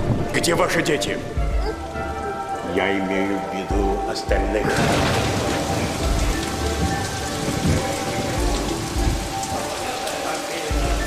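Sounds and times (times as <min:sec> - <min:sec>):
heavy rain: 0:00.0 - 0:11.0
thunder rumbling: 0:00.0 - 0:11.0.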